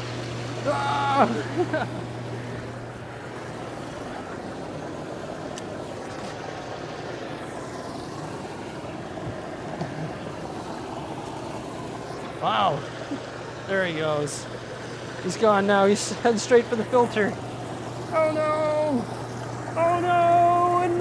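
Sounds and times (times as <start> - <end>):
hot tub jets bubbling water: 0.0 - 21.0.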